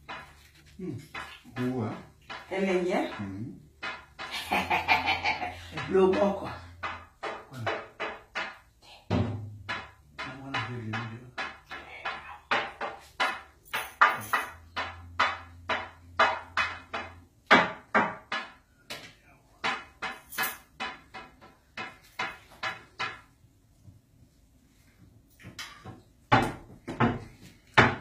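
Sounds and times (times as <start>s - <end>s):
sharp knocks and clatters: 0.0s - 24.0s, 25.0s - 28.0s.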